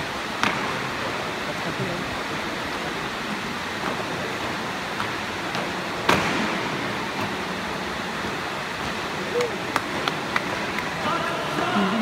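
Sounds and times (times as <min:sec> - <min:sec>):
hall noise hiss: 0:00.0 - 0:12.0.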